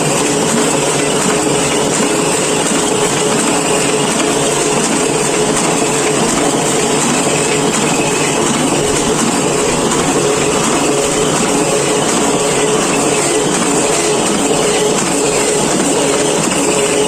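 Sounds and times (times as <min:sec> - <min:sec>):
printing press running: 0:00.0 - 0:17.0.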